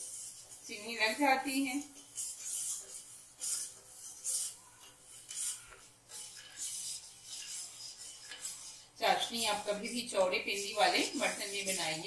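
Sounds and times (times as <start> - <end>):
spoon scraping pot bottom: 0.0 - 12.0.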